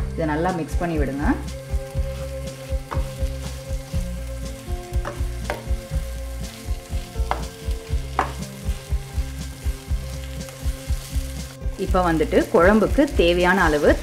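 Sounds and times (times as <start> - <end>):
background music with low notes: 0.0 - 14.0
masala sizzling in oil: 0.0 - 14.0.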